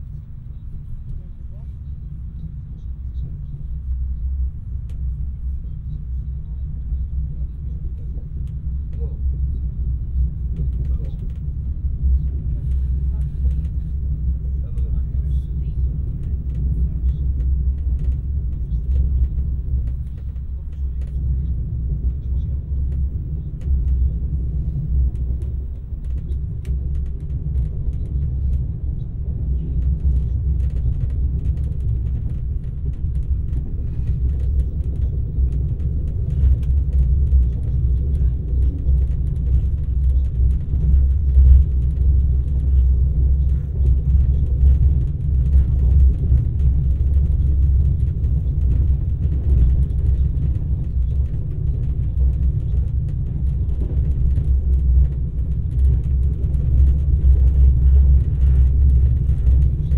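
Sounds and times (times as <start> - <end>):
faint clicks and rattles: 0.0 - 59.9
train rumble inside carriage: 0.0 - 59.9.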